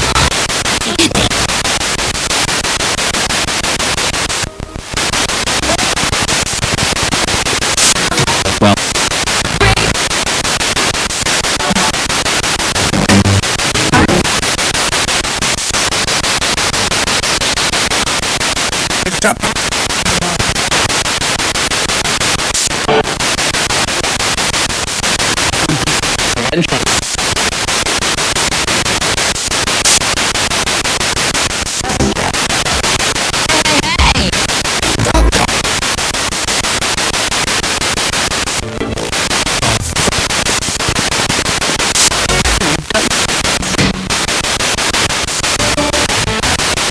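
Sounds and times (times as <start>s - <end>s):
fragments of broadcast voice: 0.0s - 2.1s, 3.5s - 15.0s, 18.8s - 24.0s, 24.9s - 46.9s
radio static hiss: 0.0s - 46.9s.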